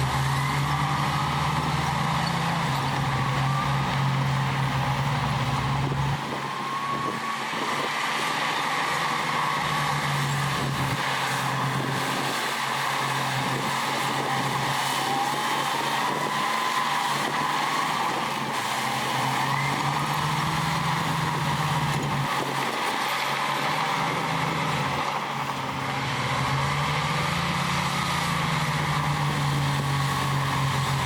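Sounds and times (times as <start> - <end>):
heavy machinery diesel engines: 0.0 - 31.0.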